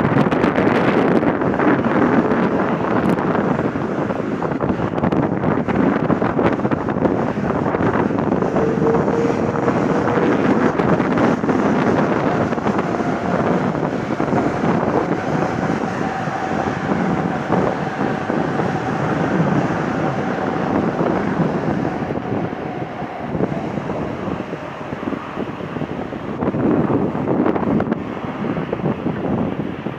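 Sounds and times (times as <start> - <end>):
jet engines roaring: 0.0 - 29.9
wind buffeting the microphone: 0.0 - 29.9.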